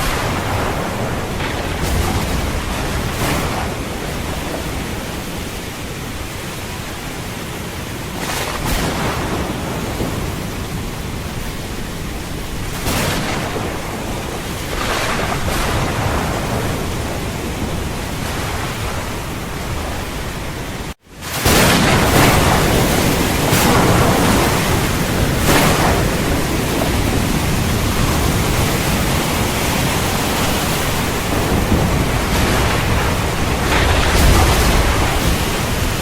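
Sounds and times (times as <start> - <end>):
heavy rain falling: 0.0 - 36.0
thunder rumbling: 0.0 - 36.0.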